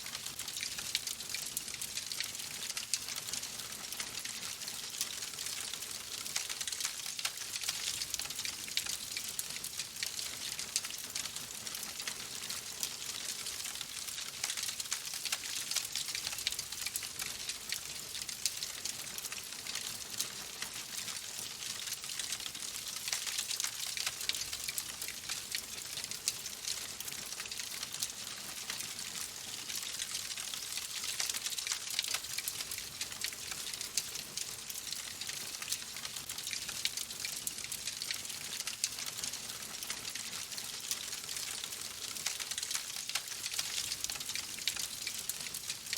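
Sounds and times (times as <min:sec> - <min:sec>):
fireplace fire crackling: 0:00.0 - 0:45.9.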